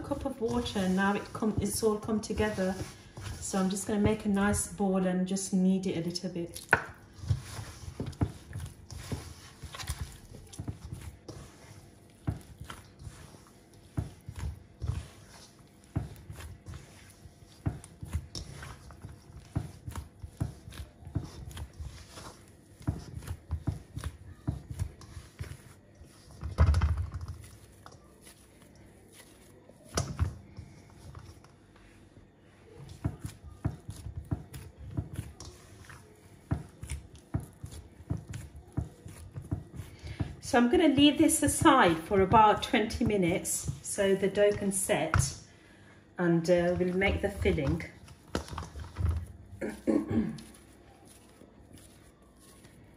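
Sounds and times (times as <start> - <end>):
hands kneading dough: 0.0 - 52.9.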